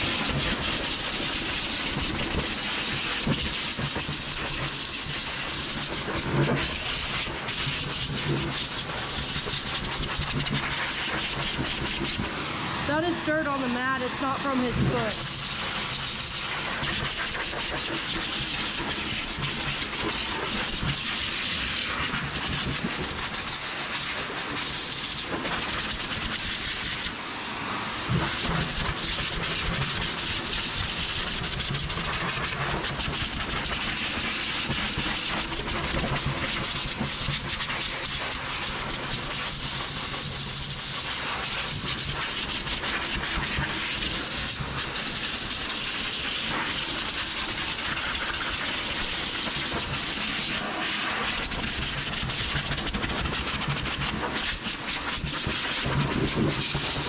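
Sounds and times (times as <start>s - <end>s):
pet dryer blowing air: 0.0s - 57.0s.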